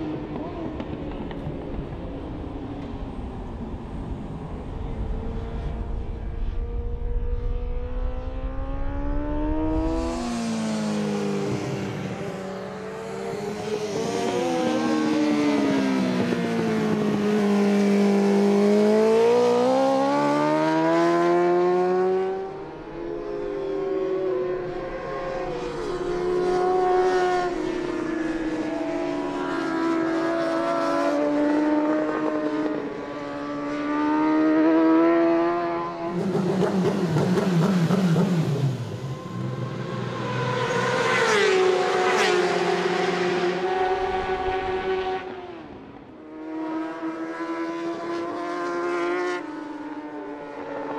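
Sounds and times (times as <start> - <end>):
racing motorcycle engine: 4.7 - 50.9.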